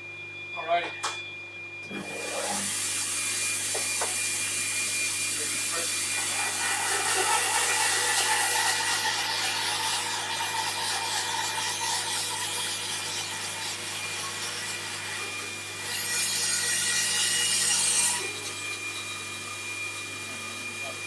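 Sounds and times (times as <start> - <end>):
dust extractor humming: 1.8 - 15.8, 16.6 - 21.0
bandsaw cutting wood: 1.9 - 21.0.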